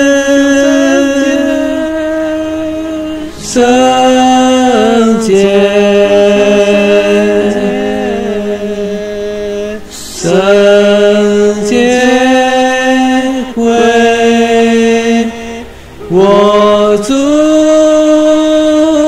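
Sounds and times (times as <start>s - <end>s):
person singing long notes: 0.0s - 19.0s.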